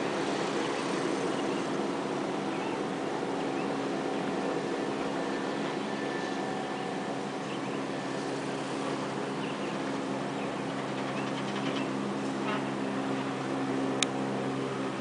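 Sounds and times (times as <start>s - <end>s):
propeller engine drone: 0.0s - 15.0s.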